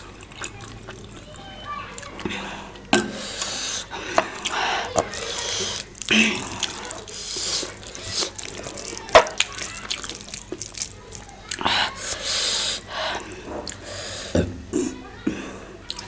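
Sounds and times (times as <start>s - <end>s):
wet chewing and slurping: 0.0s - 15.0s, 15.8s - 16.0s.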